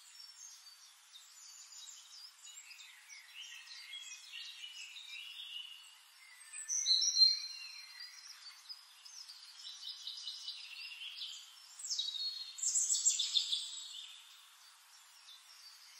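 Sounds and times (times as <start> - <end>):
birds chirping and whistling: 1.4 - 14.2.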